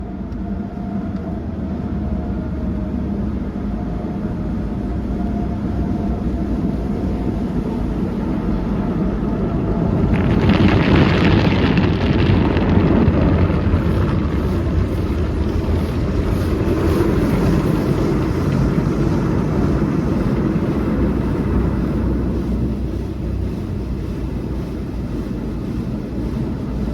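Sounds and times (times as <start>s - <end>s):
car wash machinery rumble: 0.0s - 26.9s.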